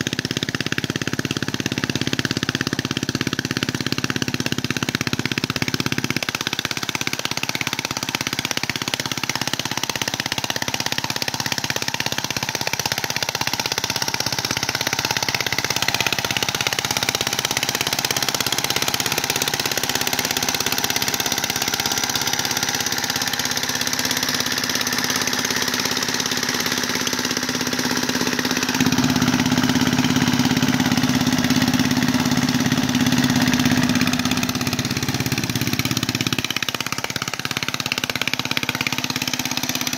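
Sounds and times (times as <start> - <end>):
small tiller engine running: 0.0 - 39.9.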